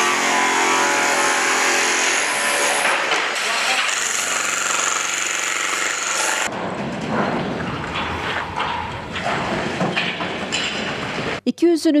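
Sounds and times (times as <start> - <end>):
demolition hammers chiselling tiles: 0.0 - 11.4.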